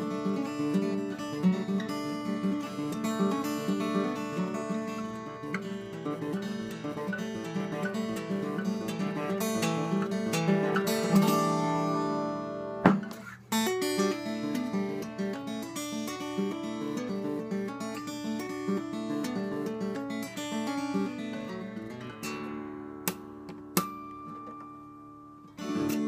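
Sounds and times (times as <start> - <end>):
acoustic guitar: 0.0 - 26.0.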